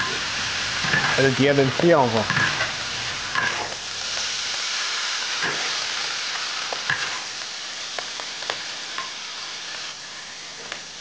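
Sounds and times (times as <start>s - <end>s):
stir-fry sizzling in a wok: 0.0s - 11.0s.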